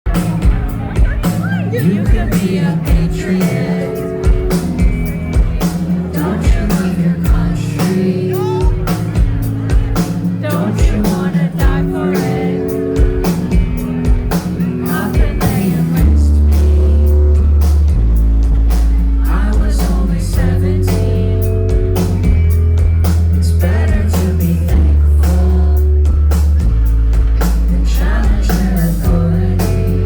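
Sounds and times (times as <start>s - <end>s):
heavy bass and guitar: 0.0s - 30.0s
live rock band: 0.1s - 30.0s.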